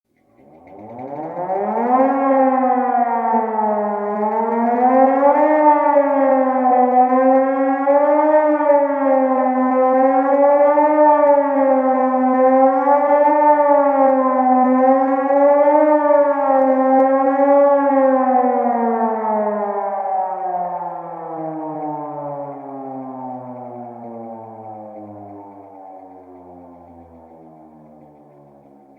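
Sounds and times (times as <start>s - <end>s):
mechanical rotor siren wailing: 0.2s - 28.9s.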